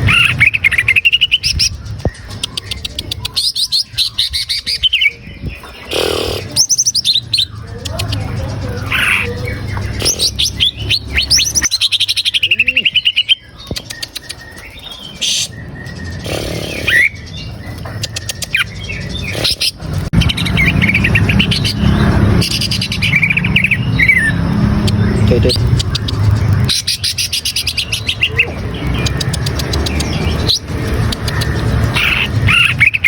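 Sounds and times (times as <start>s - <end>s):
bird chirping trills and whistles: 0.0s - 33.0s.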